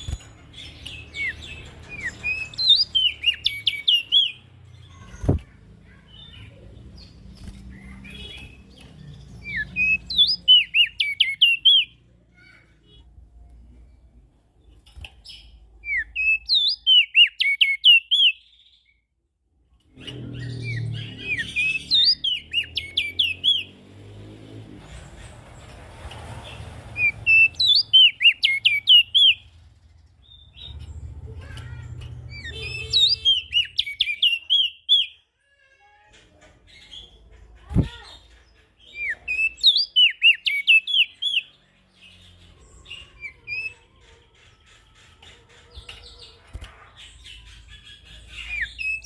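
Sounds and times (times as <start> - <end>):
bird chirping rapidly: 0.0 - 12.6, 15.2 - 18.9, 19.9 - 24.0, 26.4 - 35.3, 36.8 - 49.0.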